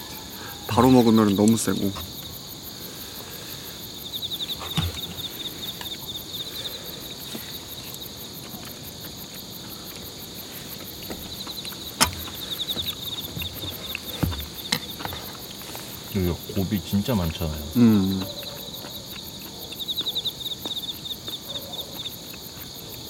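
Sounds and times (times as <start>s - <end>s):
night insects chirping: 0.0s - 23.0s
soft eating sounds: 0.0s - 23.0s.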